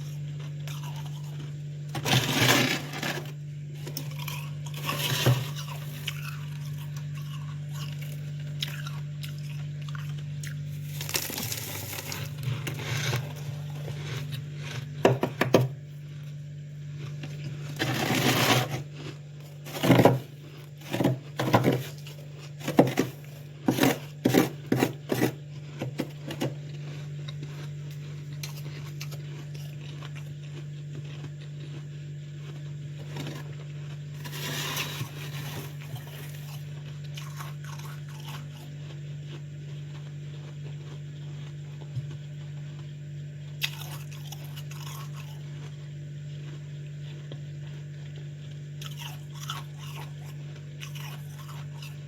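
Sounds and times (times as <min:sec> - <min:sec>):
frost crunching in mouth: 0:00.0 - 0:15.0, 0:16.0 - 0:52.0
chewing and scraping: 0:00.0 - 0:52.0.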